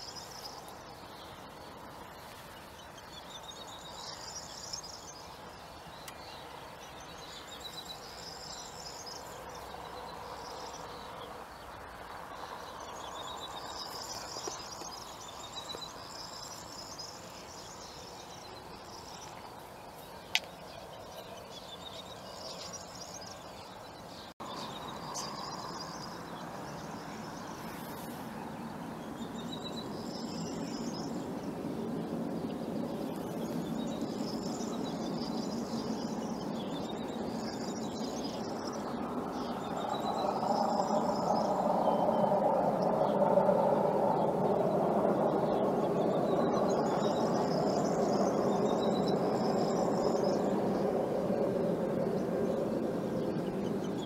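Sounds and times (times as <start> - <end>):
low rumbling noise: 0.0 - 54.0
outdoor background hiss: 0.0 - 54.0
songbirds singing: 0.0 - 54.0.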